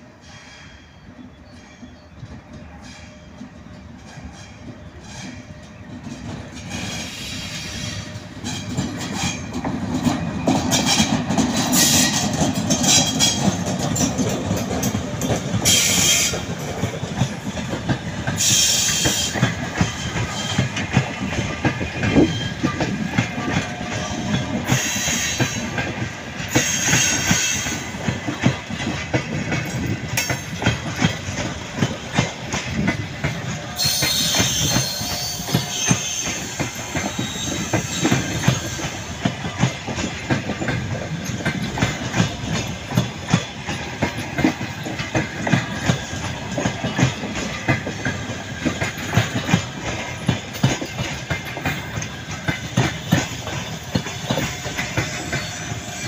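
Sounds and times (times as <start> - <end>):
train rumble: 0.9 - 56.0
wheels clacking over rail joints: 1.5 - 56.0.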